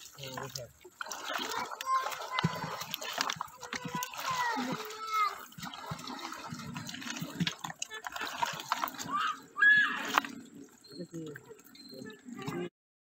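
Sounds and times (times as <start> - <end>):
fish splashing in water: 0.0 - 12.7
small wet clicks: 0.0 - 12.7.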